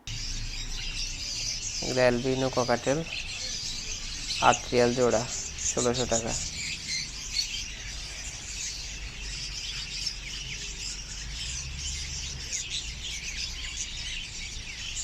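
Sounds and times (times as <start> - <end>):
caged birds chirping: 0.0 - 15.0
faint low hum: 0.0 - 15.0.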